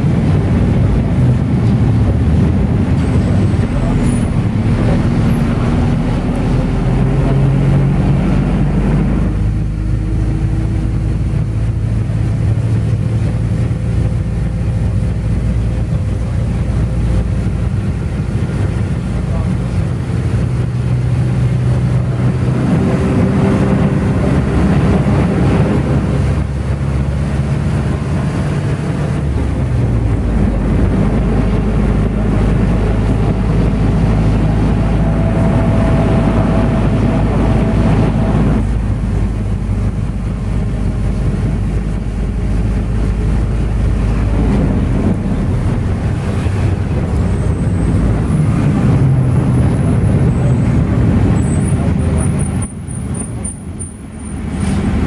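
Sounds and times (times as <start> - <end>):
engine and road noise inside bus: 0.0 - 55.0.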